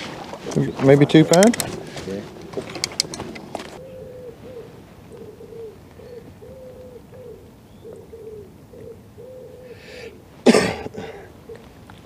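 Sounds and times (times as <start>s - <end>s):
pigeon cooing: 1.6s - 12.0s.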